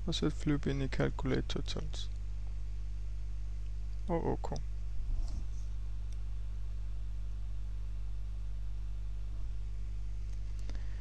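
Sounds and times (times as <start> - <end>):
faint recording hiss: 0.0 - 11.0
low electrical hum: 0.0 - 11.0.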